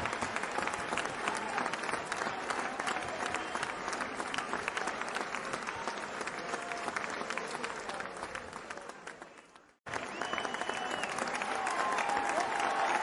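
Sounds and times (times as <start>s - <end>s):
crowd applause: 0.0s - 13.0s.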